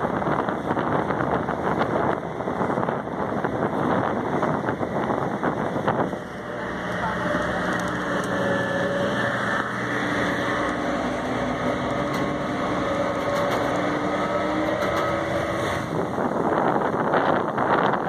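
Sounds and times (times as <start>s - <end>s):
ferry engine hum: 0.0s - 18.0s
rushing wind and water: 0.0s - 18.0s.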